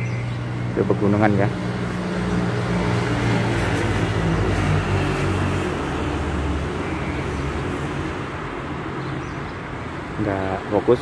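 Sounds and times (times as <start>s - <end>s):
passing vehicles rushing: 0.0s - 11.0s.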